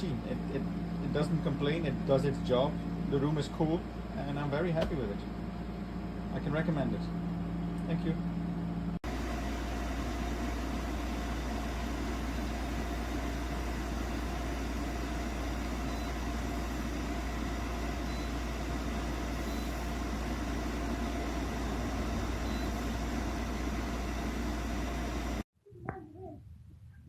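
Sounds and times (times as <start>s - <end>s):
air conditioner humming: 0.0s - 25.4s.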